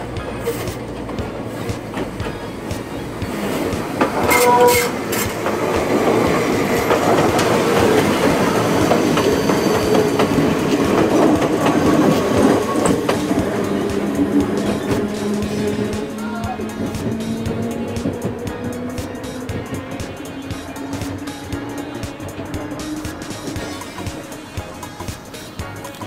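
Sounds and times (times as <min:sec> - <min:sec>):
train rumble: 0:00.0 - 0:26.0
train wheels clattering over joints: 0:00.0 - 0:26.0.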